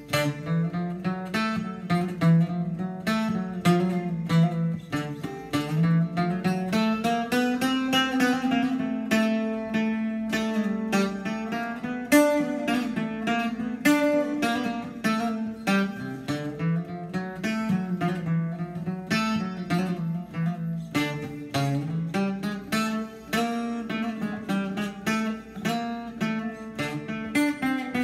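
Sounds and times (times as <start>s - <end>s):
bouzouki picked with a plectrum: 0.0s - 28.0s.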